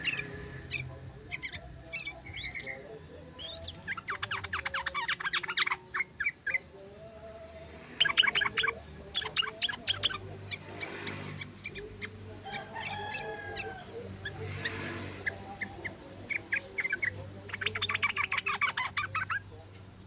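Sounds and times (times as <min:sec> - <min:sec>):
bulbuls chattering: 0:00.0 - 0:20.0.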